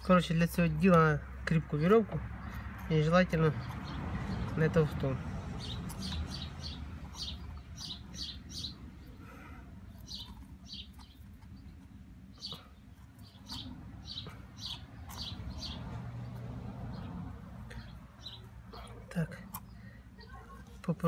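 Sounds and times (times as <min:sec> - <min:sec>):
low steady background hum: 0:00.0 - 0:21.0
small birds chirping: 0:00.0 - 0:21.0.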